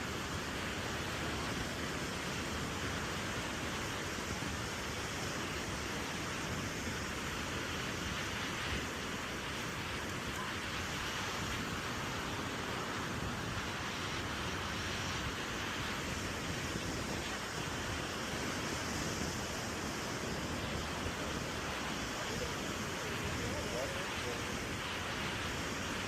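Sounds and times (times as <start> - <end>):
ocean surf: 0.0 - 26.0
wind: 0.0 - 26.0.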